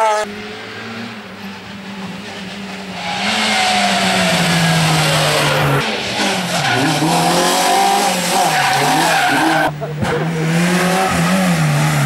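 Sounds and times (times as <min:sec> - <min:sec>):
rally car engine: 0:00.0 - 0:12.0.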